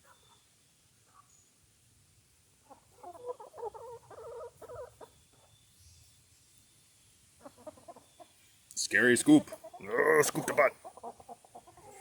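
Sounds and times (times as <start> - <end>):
chickens clucking: 0.0 - 1.5, 2.4 - 12.0.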